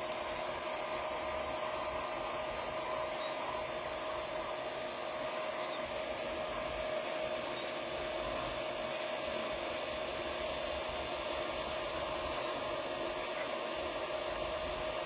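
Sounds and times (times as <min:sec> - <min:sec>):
three d printer whirring: 0:00.0 - 0:15.0.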